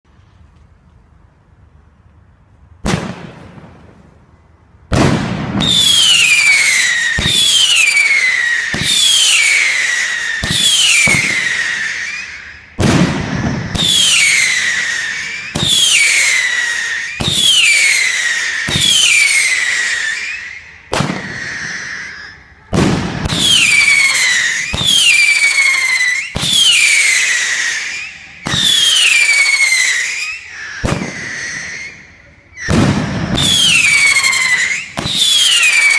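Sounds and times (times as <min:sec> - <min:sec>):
firework shots cracking and whistling: 0:02.8 - 0:35.9.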